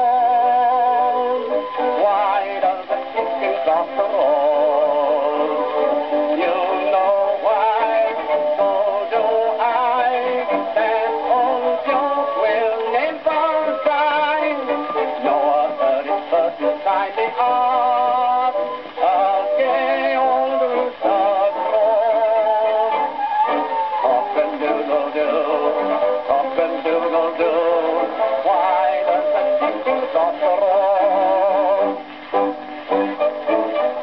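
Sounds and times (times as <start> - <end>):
instrumental accompaniment: 0.0 - 34.0
man singing with vibrato: 0.0 - 34.0.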